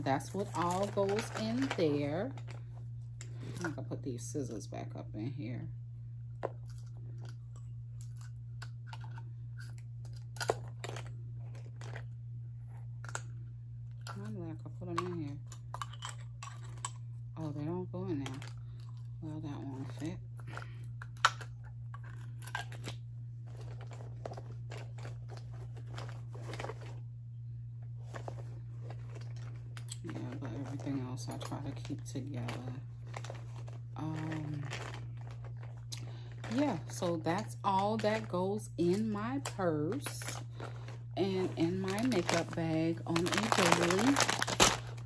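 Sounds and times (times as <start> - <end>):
low hum: 0.0 - 45.0.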